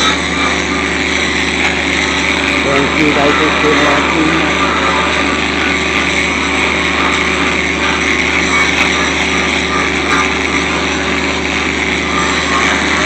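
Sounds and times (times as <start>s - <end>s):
welding generator engine drone: 0.0s - 13.0s.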